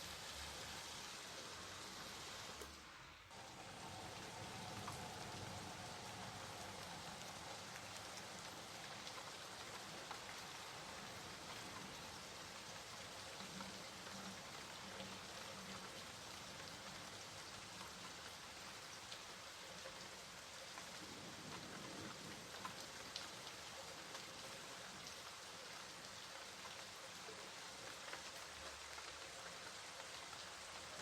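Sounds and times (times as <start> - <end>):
rain falling: 0.0 - 31.0
raindrop ticks: 3.7 - 31.0.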